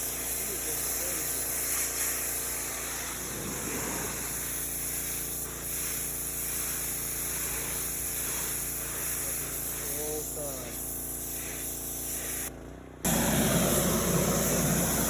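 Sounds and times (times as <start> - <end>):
pressure washer spray hissing: 0.0 - 12.5, 13.1 - 15.0
pressure washer motor hum: 0.0 - 15.0.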